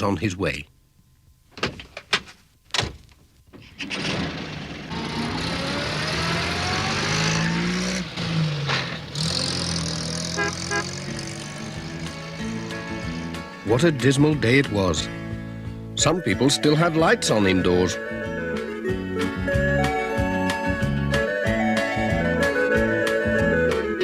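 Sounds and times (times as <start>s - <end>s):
van engine starting and revving: 3.5s - 16.0s, 16.7s - 24.0s.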